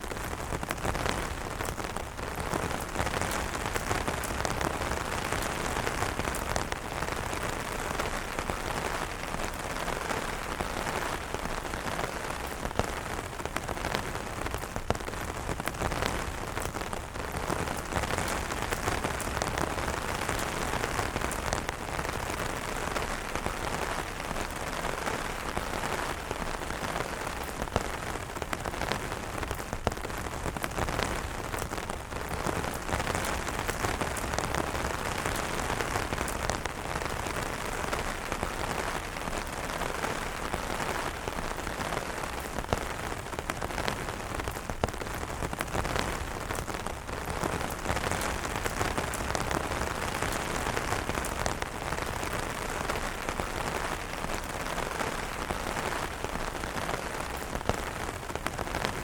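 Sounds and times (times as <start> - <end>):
rain on umbrellas: 0.0 - 59.0
sharp raindrop taps: 0.1 - 59.0.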